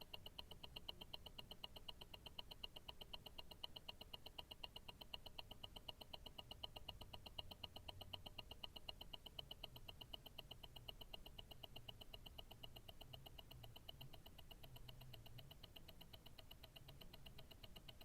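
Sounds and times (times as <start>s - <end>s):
watch ticking: 0.0s - 18.0s.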